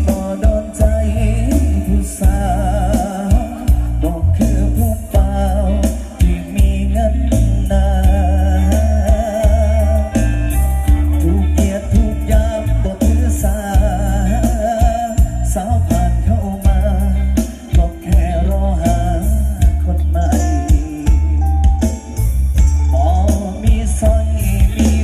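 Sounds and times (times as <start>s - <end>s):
live band music: 0.0s - 25.0s.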